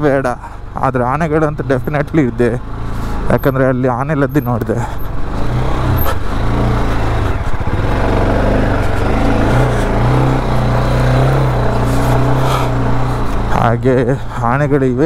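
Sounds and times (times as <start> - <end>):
motorcycle engine revving: 1.0 - 15.0.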